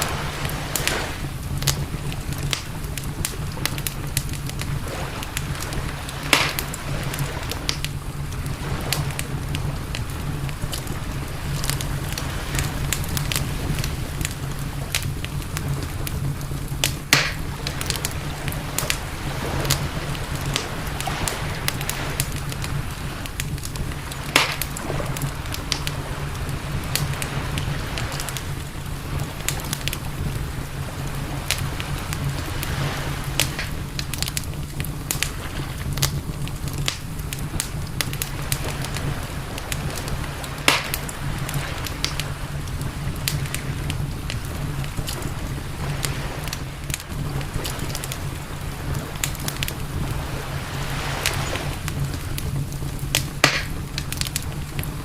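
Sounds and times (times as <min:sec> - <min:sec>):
campfire crackling and popping: 0:00.0 - 0:55.0
low rumble: 0:00.0 - 0:55.0.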